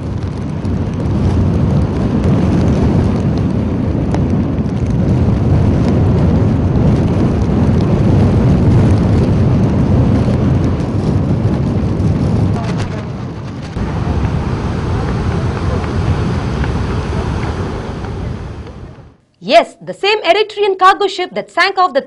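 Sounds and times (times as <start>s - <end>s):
sea noise: 0.0s - 19.2s
wind rumble: 0.0s - 19.6s.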